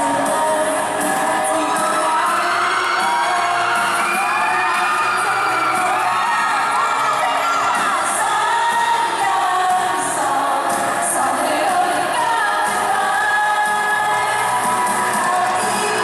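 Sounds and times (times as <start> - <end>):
live band playing: 0.0 - 16.0
women singing pop song: 0.0 - 16.0.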